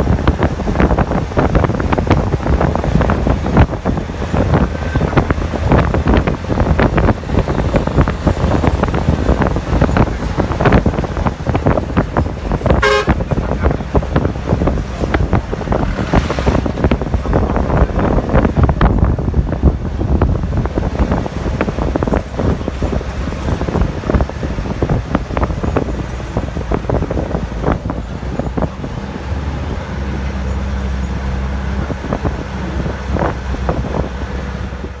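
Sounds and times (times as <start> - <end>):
bus body rattling and knocking: 0.0 - 35.0
bus engine and tyres rumbling: 0.0 - 35.0
wind noise: 0.0 - 35.0.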